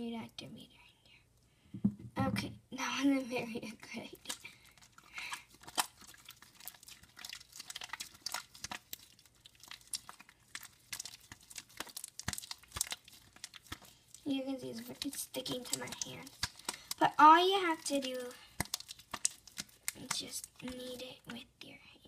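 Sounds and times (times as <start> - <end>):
slime squelching by hand: 3.1 - 21.6.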